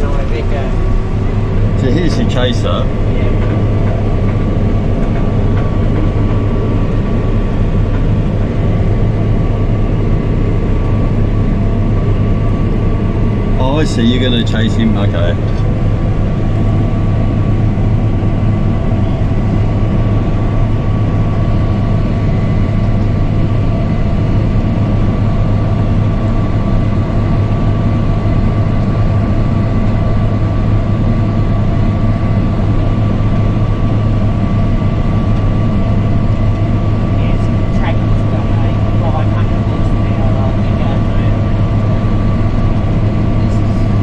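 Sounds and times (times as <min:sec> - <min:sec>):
combine harvester engine droning: 0:00.0 - 0:44.0
faint steady whine: 0:00.0 - 0:44.0.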